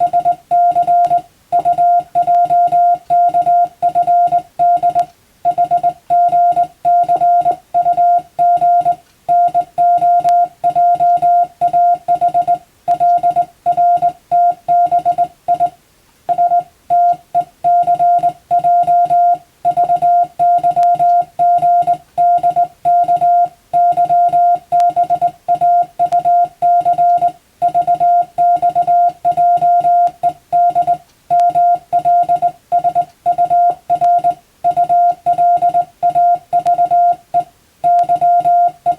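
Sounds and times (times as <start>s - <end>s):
morse code tone: 0.0s - 38.9s.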